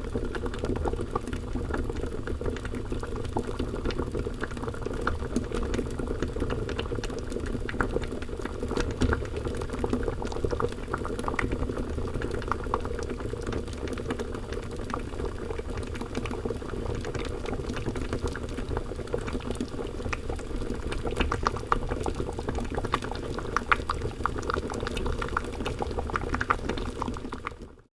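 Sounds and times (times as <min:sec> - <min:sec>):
thick liquid boiling: 0:00.0 - 0:27.9.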